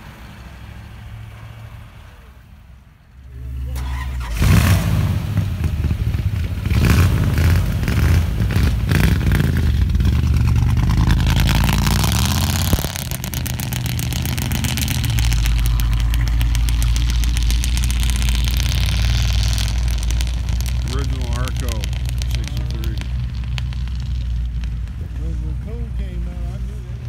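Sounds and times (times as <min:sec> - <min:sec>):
car engine revving and droning: 0:00.0 - 0:27.0.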